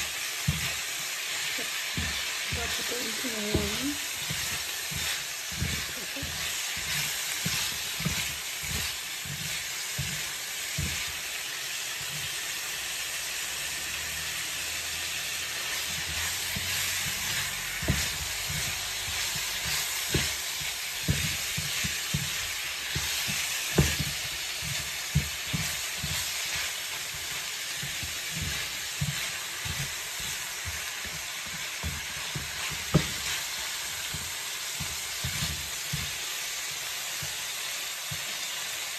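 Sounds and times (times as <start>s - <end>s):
spatula scraping and knocking pan: 0.0s - 13.7s, 14.5s - 38.9s
meat and peppers sizzling: 0.0s - 38.9s.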